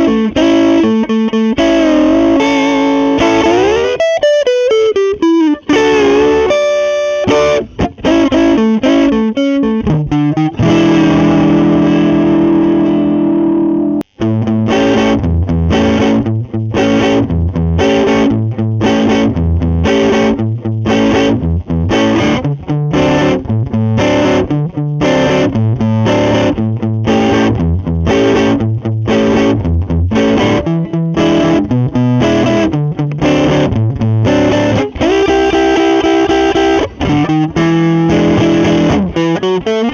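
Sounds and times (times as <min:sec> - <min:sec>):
overdriven electric guitar strumming: 0:00.0 - 0:39.9.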